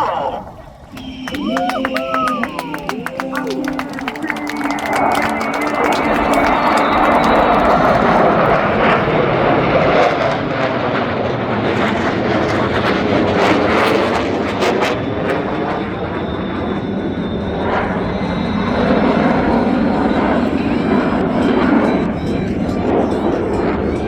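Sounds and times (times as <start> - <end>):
jet roar flying past: 0.0 - 24.0.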